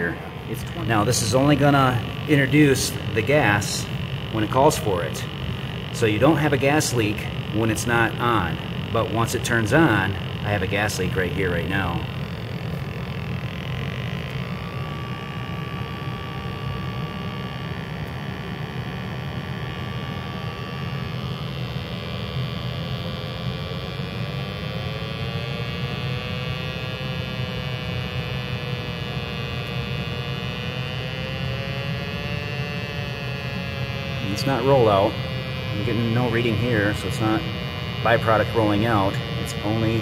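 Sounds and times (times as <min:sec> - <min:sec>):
slowly wavering tone: 0:00.0 - 0:40.0
steady tone: 0:00.0 - 0:40.0
water heater humming: 0:00.0 - 0:40.0.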